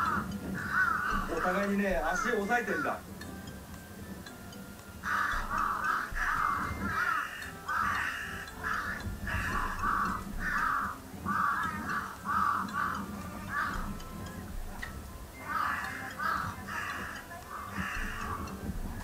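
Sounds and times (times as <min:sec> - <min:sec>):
crows cawing: 0:00.0 - 0:03.1, 0:05.0 - 0:19.0.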